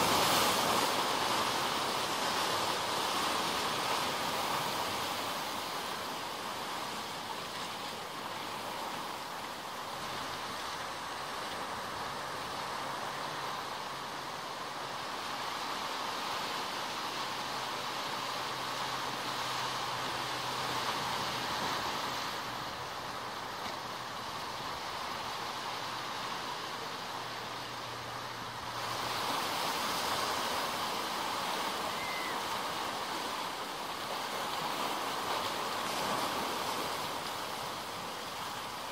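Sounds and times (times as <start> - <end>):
surf washing against rocks: 0.0 - 38.9.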